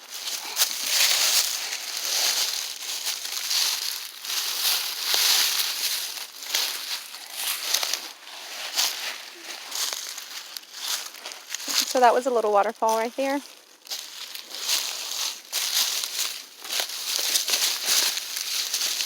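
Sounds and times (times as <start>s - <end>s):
footsteps in dry leaves: 0.0s - 19.0s.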